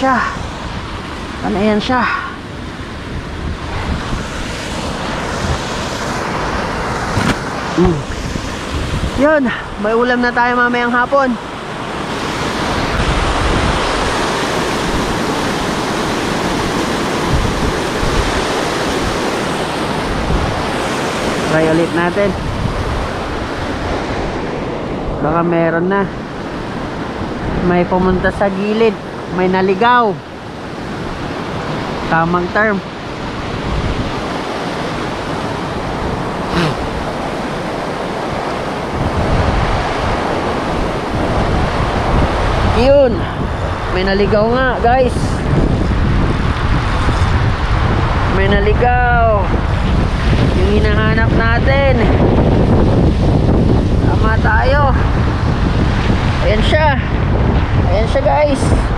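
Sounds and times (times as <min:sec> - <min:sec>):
water rushing through spillway: 0:00.0 - 0:58.9
wind rumbling on microphone: 0:00.0 - 0:58.9.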